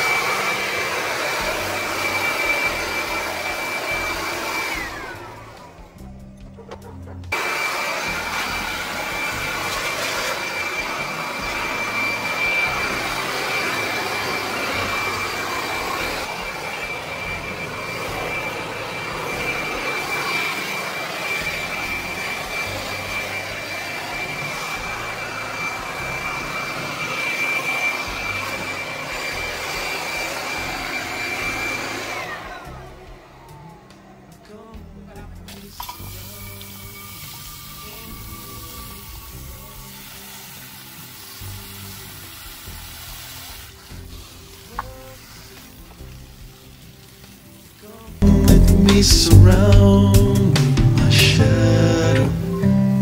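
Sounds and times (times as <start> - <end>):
electric leaf blower whining: 0.0 - 53.0.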